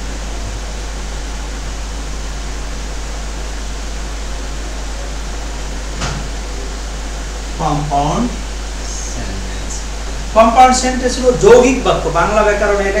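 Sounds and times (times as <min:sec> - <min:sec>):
low hum: 0:00.0 - 0:13.0
recording hiss: 0:00.0 - 0:13.0.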